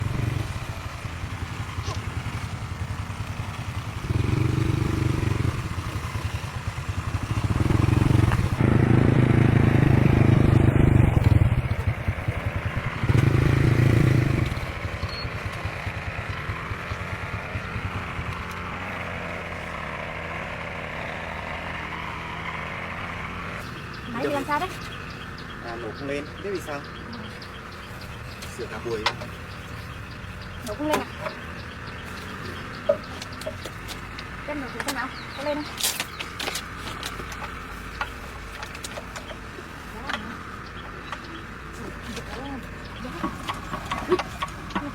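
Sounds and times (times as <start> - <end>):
engine chugging and revving: 0.0 - 44.9.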